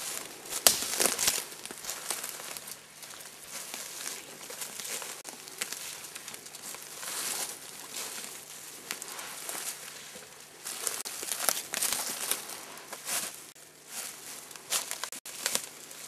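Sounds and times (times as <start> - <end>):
brush rustling against clothing: 0.0 - 16.0
footsteps crunching dry leaves: 0.0 - 16.0.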